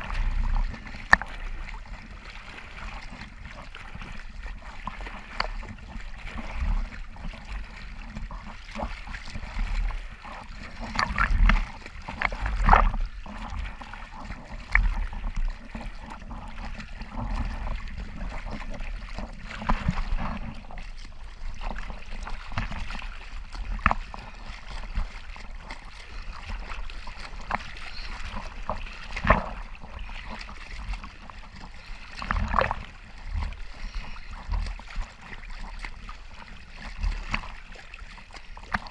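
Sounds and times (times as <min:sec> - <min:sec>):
sea water sloshing: 0:00.0 - 0:38.9.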